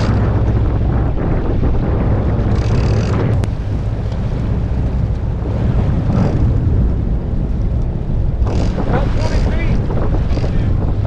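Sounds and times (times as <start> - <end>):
boat engine running: 0.0 - 11.0
wind buffeting microphone: 0.0 - 11.0.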